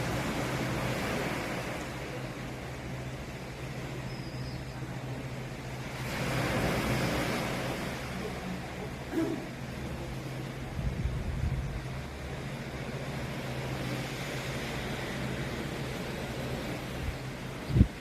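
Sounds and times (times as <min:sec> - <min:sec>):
sea surf washing on shore: 0:00.0 - 0:18.0.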